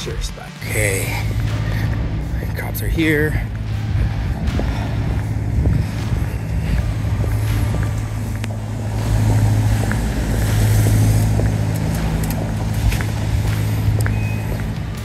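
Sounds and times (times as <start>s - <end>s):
steady low hum: 0.0s - 15.0s
traffic on wet pavement: 0.0s - 15.0s.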